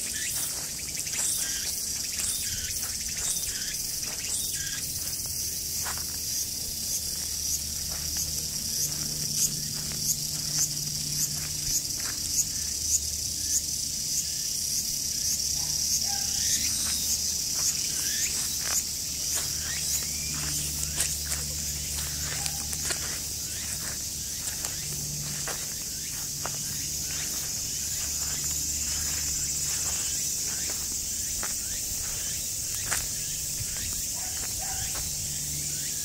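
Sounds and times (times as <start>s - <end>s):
footsteps rustling in grass: 0.0s - 12.8s, 15.7s - 36.0s
insects shrilling in trees: 0.0s - 36.0s.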